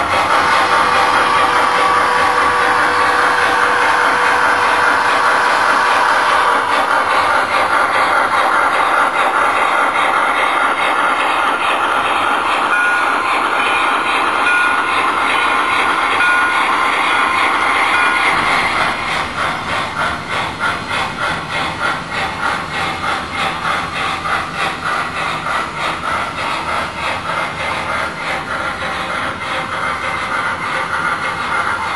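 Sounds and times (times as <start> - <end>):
rhythmic steam chuffing: 0.0 - 31.9
steam hiss: 0.0 - 31.9
train wheels rolling: 0.0 - 31.9.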